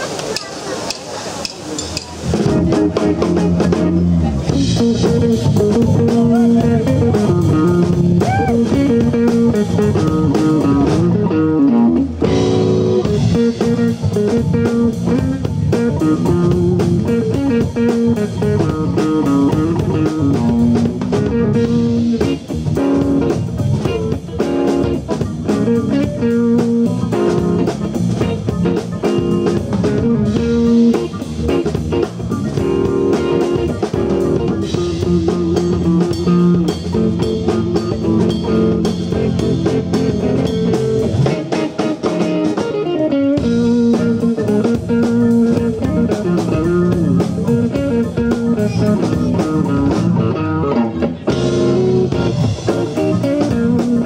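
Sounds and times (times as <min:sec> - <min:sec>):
jazz-funk band playing: 0:00.0 - 0:54.0
electric guitar riff: 0:02.2 - 0:54.0.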